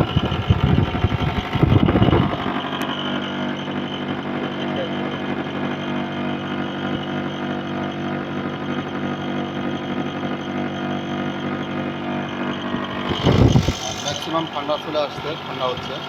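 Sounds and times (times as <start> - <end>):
window air conditioner running: 0.0 - 16.0.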